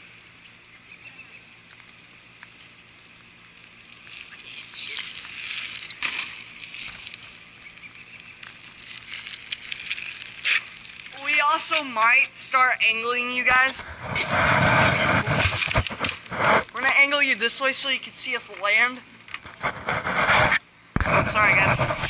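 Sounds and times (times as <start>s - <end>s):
bicycle tyres on wet pavement: 0.0s - 20.6s.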